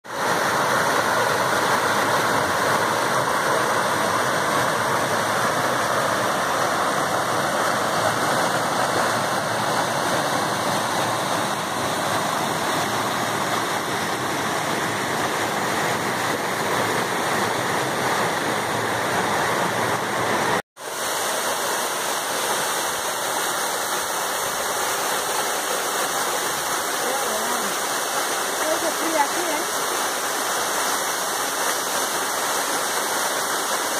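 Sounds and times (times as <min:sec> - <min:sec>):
water rushing over rocks: 0:00.0 - 0:33.9.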